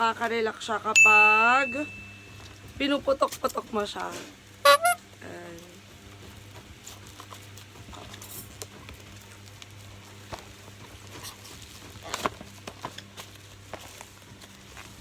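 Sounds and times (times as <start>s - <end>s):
bubble wrap crinkling: 2.1s - 15.0s.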